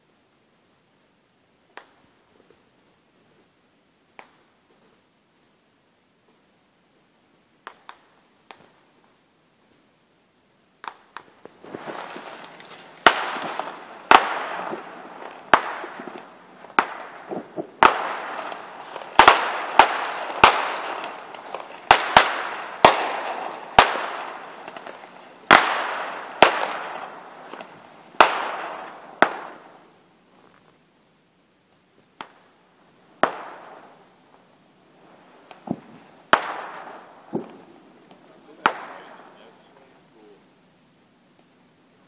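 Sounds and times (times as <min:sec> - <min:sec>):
fireworks bangs with crackling hiss: 0:01.5 - 0:09.9, 0:10.6 - 0:42.0.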